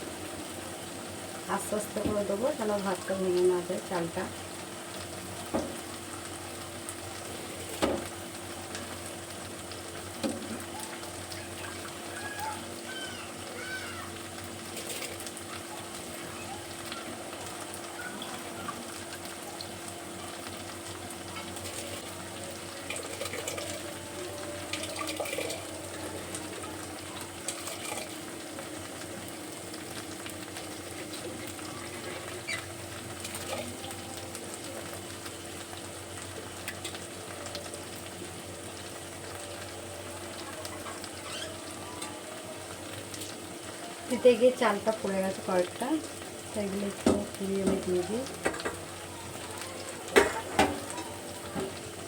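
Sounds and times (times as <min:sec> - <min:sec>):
masala sizzling in oil: 0:00.0 - 0:52.0
water boiling: 0:00.0 - 0:52.0.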